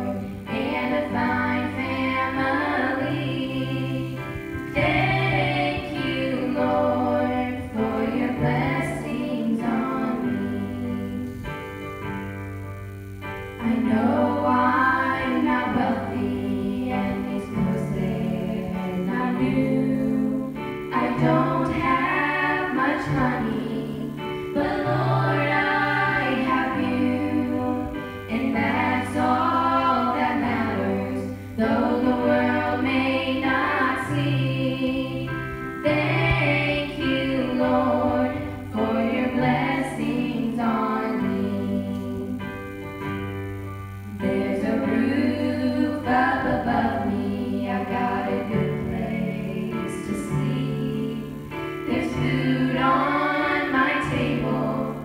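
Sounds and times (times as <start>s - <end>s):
women singing through pa: 0.0s - 11.6s, 13.0s - 42.8s, 44.0s - 55.0s.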